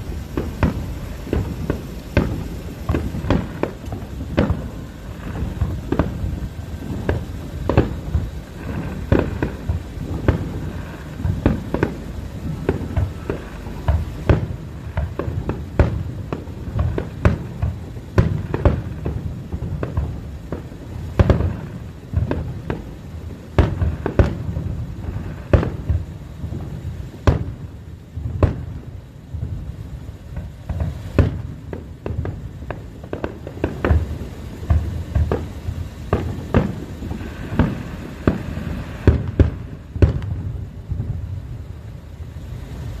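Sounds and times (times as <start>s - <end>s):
fireworks booming: 0.0s - 43.0s.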